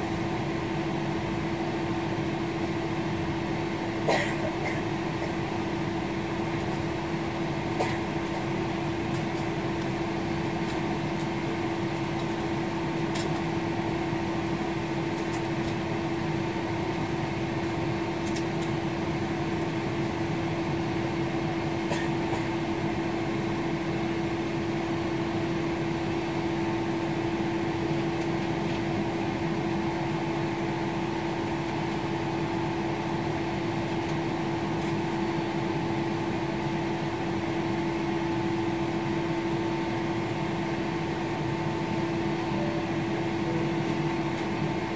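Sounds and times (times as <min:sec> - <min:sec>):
steady mid-pitched hum: 0:00.0 - 0:44.9.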